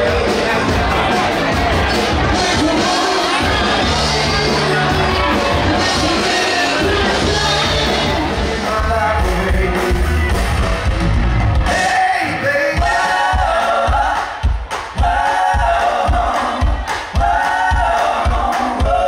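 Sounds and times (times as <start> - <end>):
music with singing voice: 0.0 - 19.0
steady drum beat: 0.0 - 19.0.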